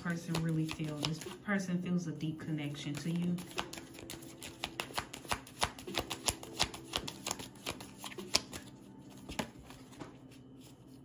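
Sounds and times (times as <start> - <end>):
cards being shuffled: 0.0 - 1.4, 2.8 - 11.0.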